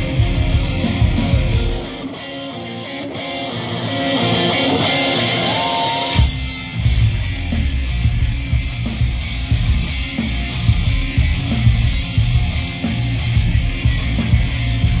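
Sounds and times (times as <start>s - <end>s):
drums and full rock band: 0.0s - 15.0s
electric guitar playing: 0.0s - 15.0s.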